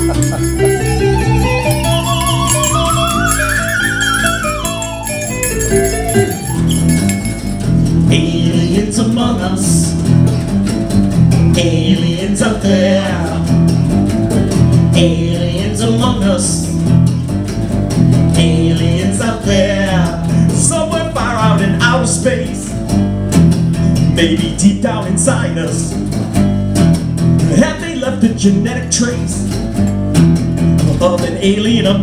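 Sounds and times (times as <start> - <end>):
electric bass guitar: 0.0 - 32.0
electric guitar: 0.0 - 32.0.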